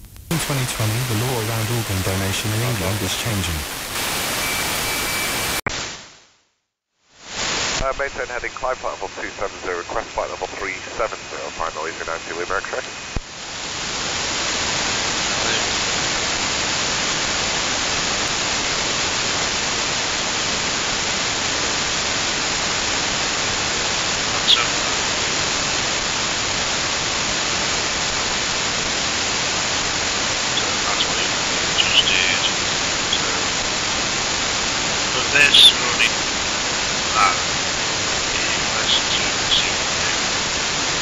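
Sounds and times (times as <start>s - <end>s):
radio static hiss: 0.0s - 6.0s, 7.2s - 41.0s.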